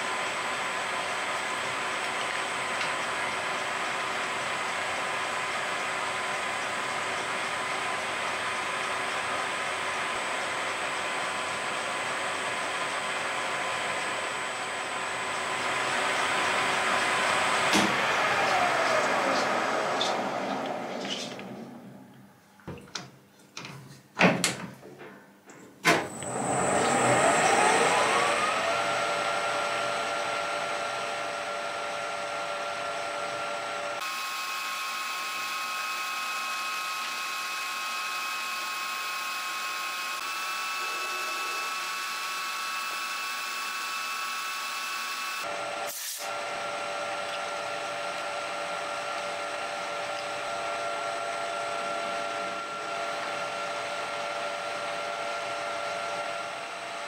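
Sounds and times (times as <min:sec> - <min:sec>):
lathe running with whine: 0:00.0 - 0:21.8, 0:26.1 - 0:57.0.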